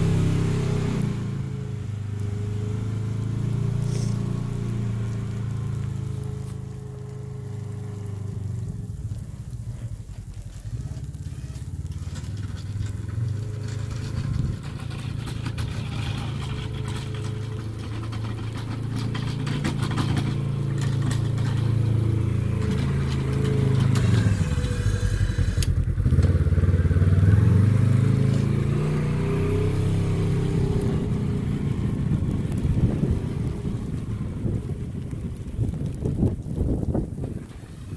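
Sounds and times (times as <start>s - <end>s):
vehicle engine plowing snow: 0.0s - 37.9s.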